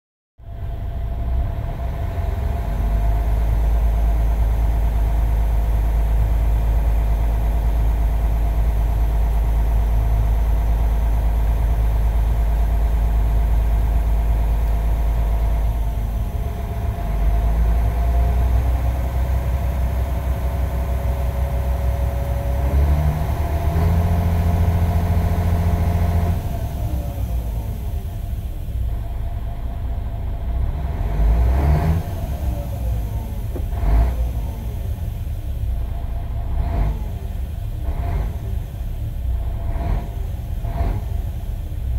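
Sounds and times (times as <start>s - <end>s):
diesel engine revving: 0.5s - 41.9s.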